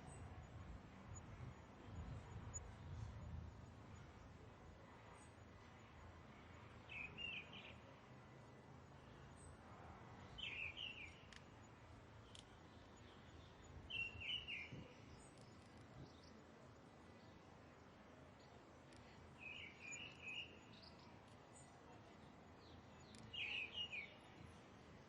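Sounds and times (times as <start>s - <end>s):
faint outdoor hiss: 0.0s - 25.0s.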